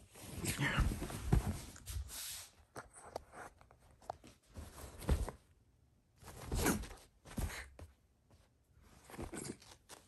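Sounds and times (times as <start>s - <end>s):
bedding rustling: 0.0s - 2.7s, 3.8s - 10.0s.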